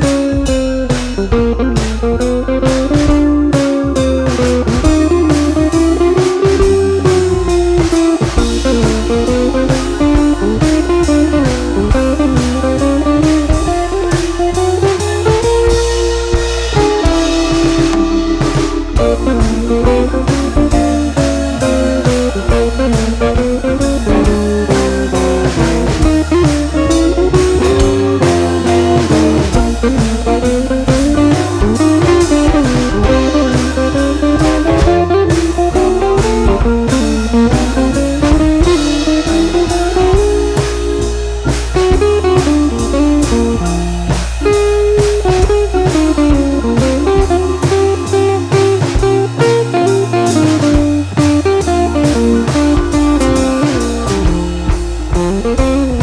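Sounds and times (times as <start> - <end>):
blues guitar and drums music: 0.0 - 56.0.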